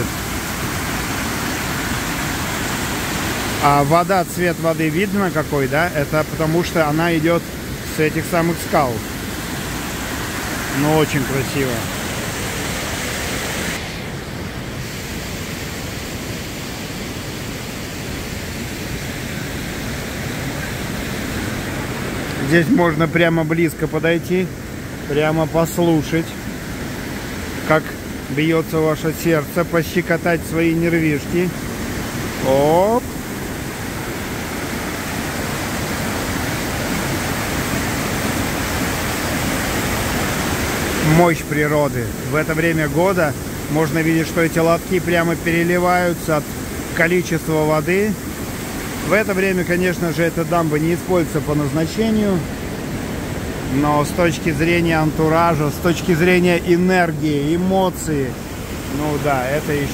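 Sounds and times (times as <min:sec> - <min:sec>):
water rushing through weir chutes: 0:00.0 - 0:59.9.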